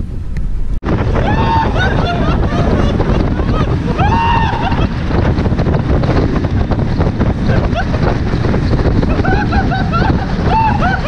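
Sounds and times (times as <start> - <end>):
heavy wind buffeting microphone: 0.0 - 11.0.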